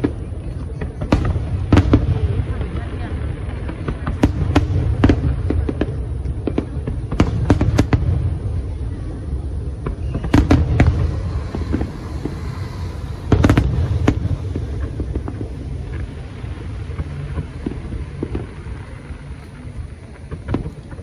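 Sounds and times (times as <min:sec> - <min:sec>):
fireworks rumbling: 0:00.0 - 0:21.0
fireworks sharp cracks: 0:00.0 - 0:21.0.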